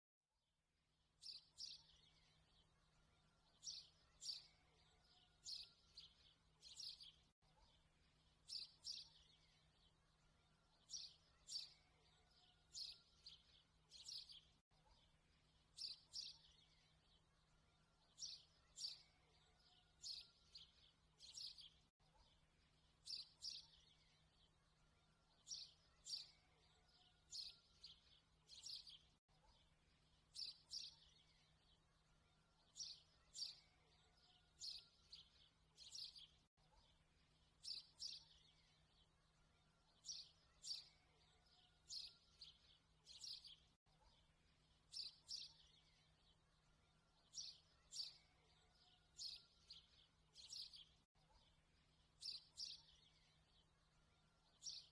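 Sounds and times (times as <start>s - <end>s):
faint bird chirps: 1.2s - 54.9s.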